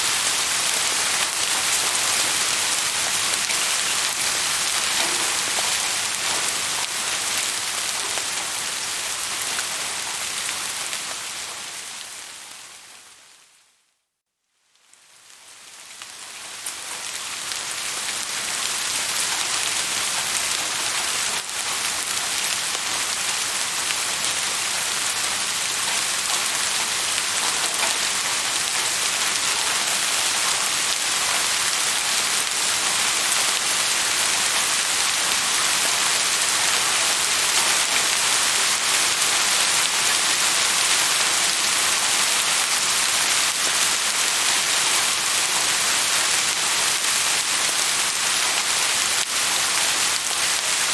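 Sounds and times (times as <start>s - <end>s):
steady rain: 0.0s - 14.0s, 14.6s - 50.9s.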